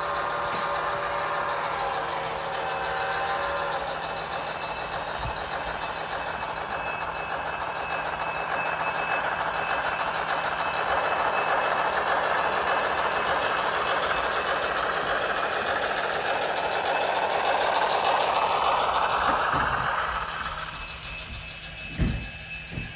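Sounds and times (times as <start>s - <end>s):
model train rolling on track: 0.0s - 22.9s
thin motor whine: 0.0s - 22.9s.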